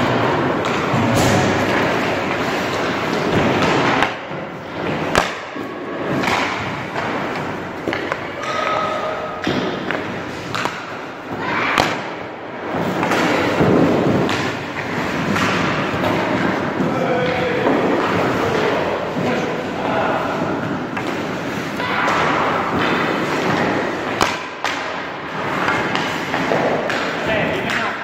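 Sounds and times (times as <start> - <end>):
skates scraping on ice: 0.0 - 8.3, 12.6 - 28.0
stick striking puck: 0.0 - 19.6, 20.6 - 28.0.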